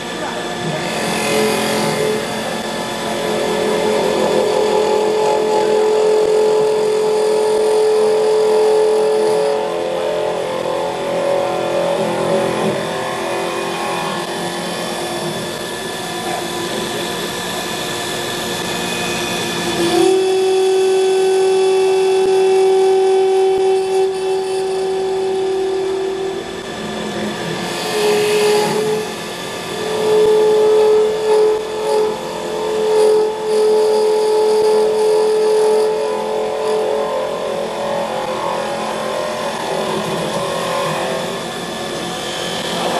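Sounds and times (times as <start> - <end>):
lathe motor whine: 0.0 - 42.9
tool cutting wood hiss: 0.7 - 42.9.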